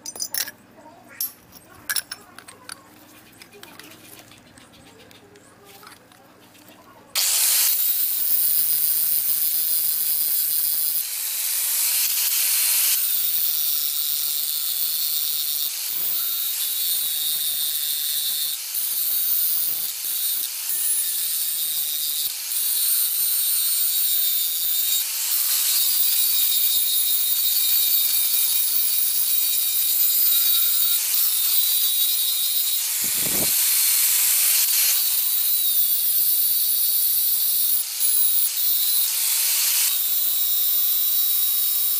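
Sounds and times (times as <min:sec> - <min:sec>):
power tool grinding metal: 0:07.2 - 0:41.9.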